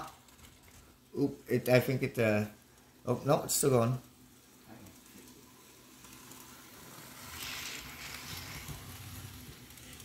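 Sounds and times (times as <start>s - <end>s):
model train whirring and rattling: 0.0s - 10.0s.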